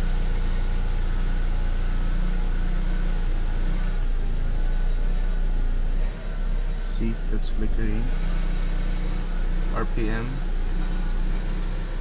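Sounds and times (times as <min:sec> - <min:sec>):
car engine idling roughly: 0:00.0 - 0:12.0
noisy exhaust: 0:00.0 - 0:12.0.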